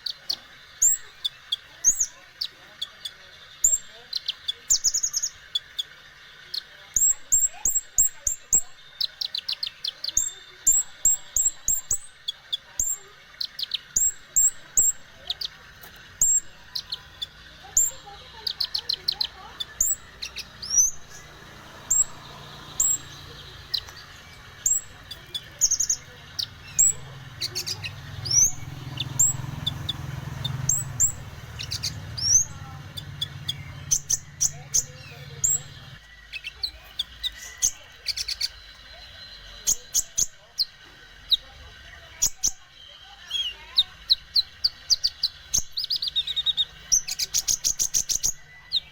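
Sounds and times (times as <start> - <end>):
kingfisher chirping and trilling: 0.0 - 41.5.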